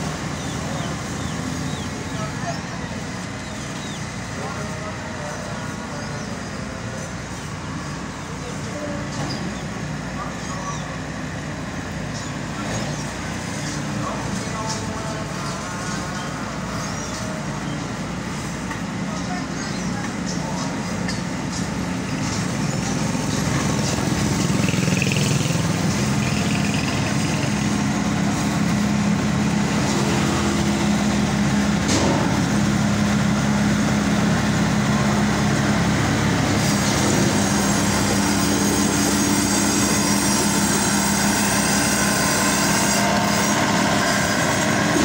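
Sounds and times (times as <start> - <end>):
combine harvester diesel engine: 0.0 - 45.0.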